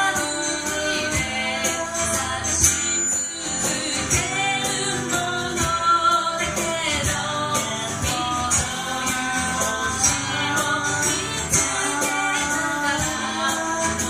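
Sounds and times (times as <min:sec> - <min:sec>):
hand percussion: 0:00.0 - 0:14.0
man and woman singing: 0:00.0 - 0:14.0
strummed acoustic guitar: 0:00.0 - 0:14.0.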